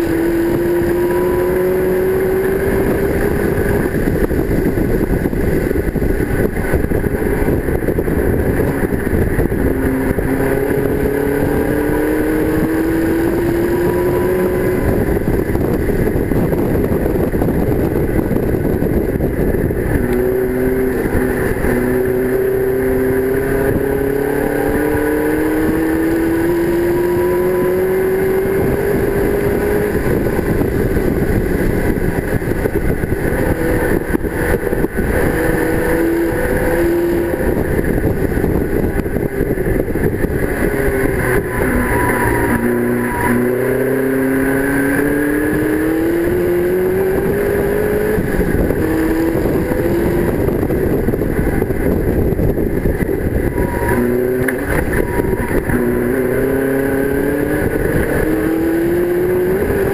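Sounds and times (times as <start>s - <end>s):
racing engine accelerating: 0.0s - 59.9s.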